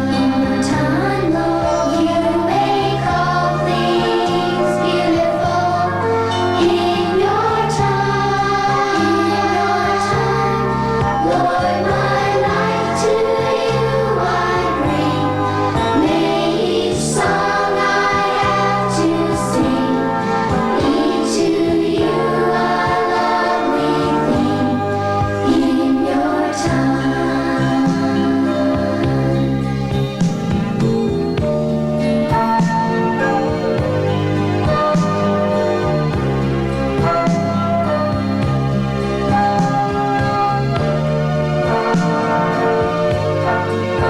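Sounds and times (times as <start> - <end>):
children's choir singing: 0.0 - 44.0
instrumental backing: 0.0 - 44.0.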